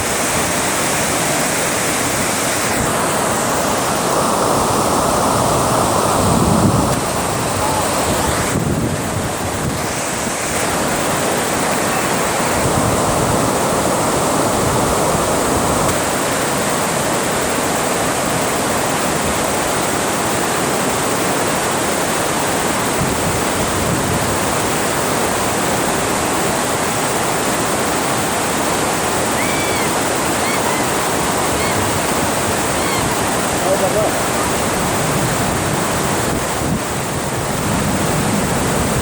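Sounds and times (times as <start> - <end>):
water rushing at a dam: 0.0 - 39.0.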